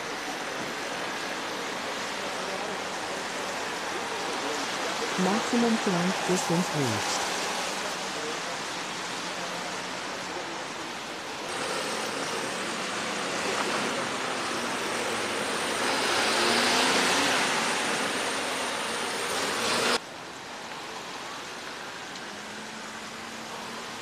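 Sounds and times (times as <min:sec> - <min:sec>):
road traffic rush: 0:00.0 - 0:24.0.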